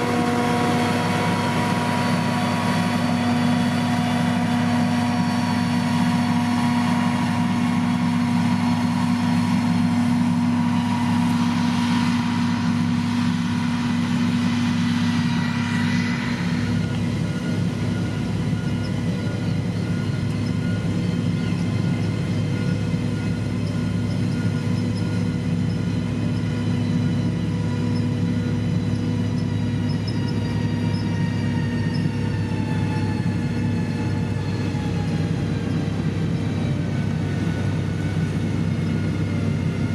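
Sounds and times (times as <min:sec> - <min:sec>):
heavy machine diesel engine: 0:00.0 - 0:39.9.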